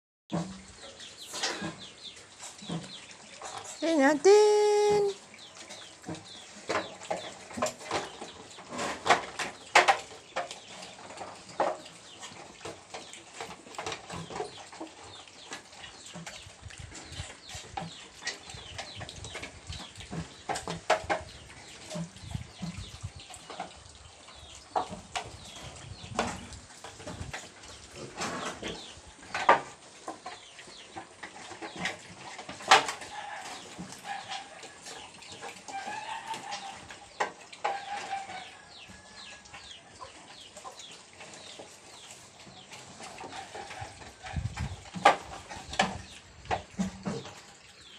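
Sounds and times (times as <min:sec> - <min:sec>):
piglets chewing and grunting: 0:00.3 - 0:04.5, 0:05.1 - 0:47.9.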